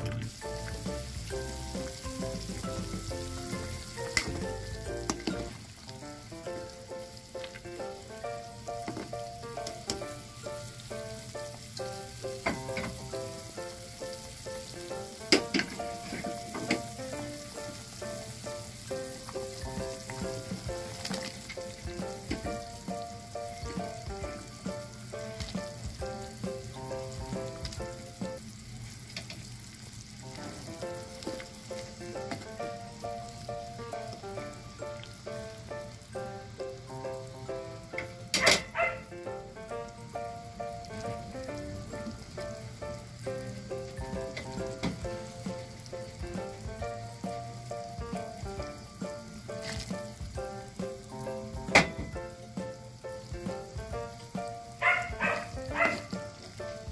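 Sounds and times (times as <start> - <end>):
background music with held notes: 0.0 - 28.9, 30.1 - 56.9
food sizzling in a pot: 0.0 - 56.9.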